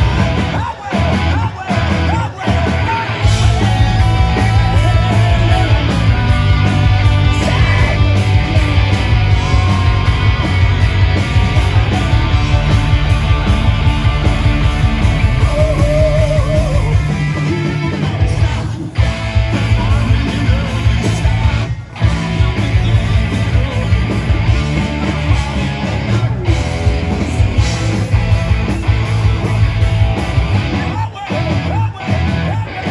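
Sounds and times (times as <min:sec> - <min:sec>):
punk rock band with guitars: 0:00.0 - 0:32.9.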